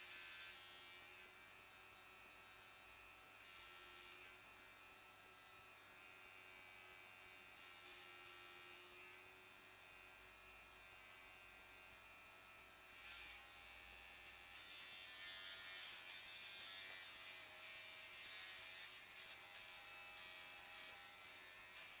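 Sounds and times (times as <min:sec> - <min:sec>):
tattoo machine buzzing: 0:00.0 - 0:22.0.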